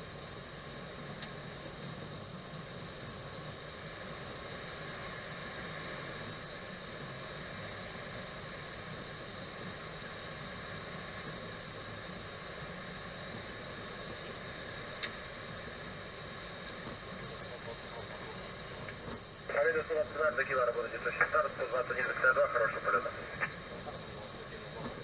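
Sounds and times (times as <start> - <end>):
aircraft cockpit hiss and rumble: 0.0 - 25.0.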